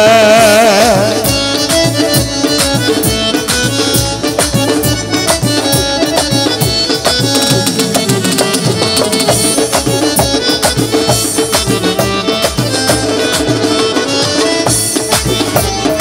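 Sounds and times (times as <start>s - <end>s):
hand drums playing: 0.0s - 16.0s
harmonium chords: 0.0s - 16.0s.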